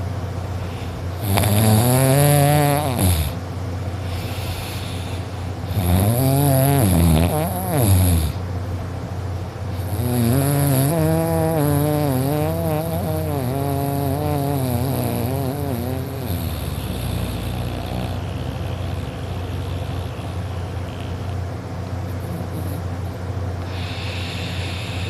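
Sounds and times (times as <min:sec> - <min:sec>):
person snoring loudly: 0:00.8 - 0:03.4, 0:04.0 - 0:08.4, 0:09.7 - 0:21.4, 0:22.1 - 0:22.9, 0:23.6 - 0:25.0.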